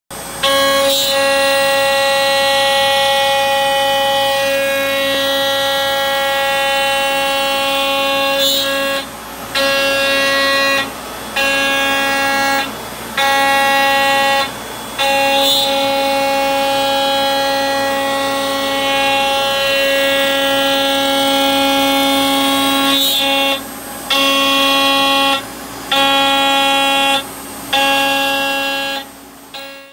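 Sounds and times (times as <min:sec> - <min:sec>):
router cutting metal: 0:00.2 - 0:29.9.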